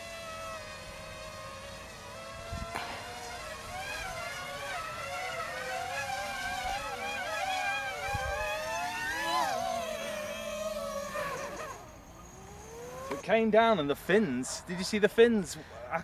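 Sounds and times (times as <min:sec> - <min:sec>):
drone propellers whining: 0:00.0 - 0:13.3.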